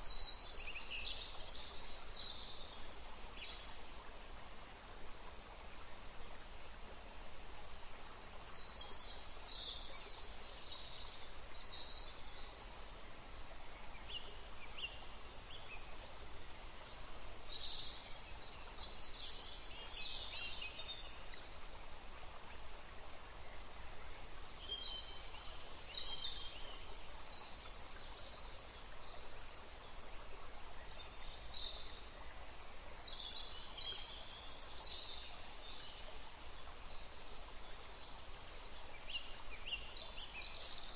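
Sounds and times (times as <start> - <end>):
background hiss: 0.0 - 40.9.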